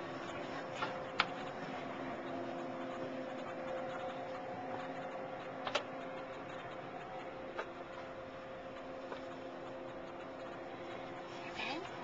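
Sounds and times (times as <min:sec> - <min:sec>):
train carriage mechanical hum: 0:00.0 - 0:12.0.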